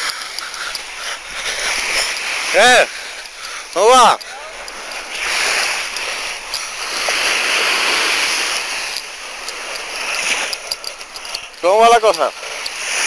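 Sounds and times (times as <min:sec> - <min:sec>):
small waves washing on beach: 0:00.0 - 0:13.0.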